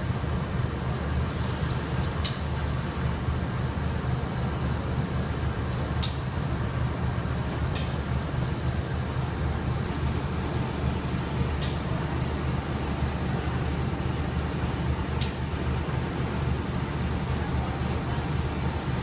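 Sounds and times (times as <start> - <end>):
passenger train rumbling: 0.0 - 19.0.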